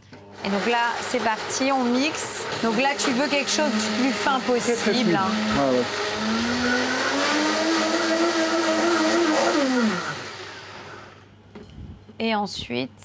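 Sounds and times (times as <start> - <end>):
blender motor whine: 0.4 - 11.3.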